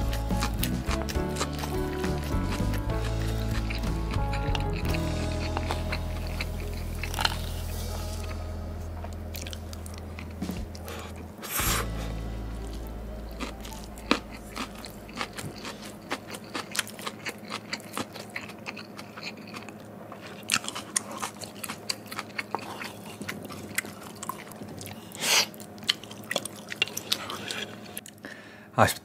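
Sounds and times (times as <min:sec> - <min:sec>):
person chewing: 0:00.0 - 0:08.4, 0:09.3 - 0:28.2.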